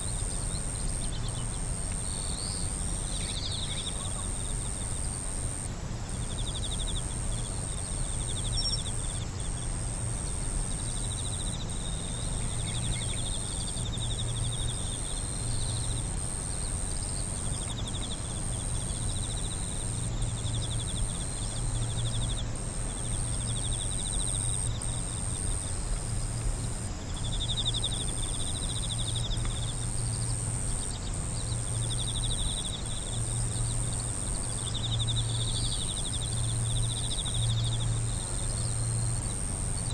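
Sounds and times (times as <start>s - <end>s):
insect continuous high trill: 0.0s - 39.9s
insect pulsed trills: 0.0s - 39.9s
low steady hum: 0.0s - 39.9s.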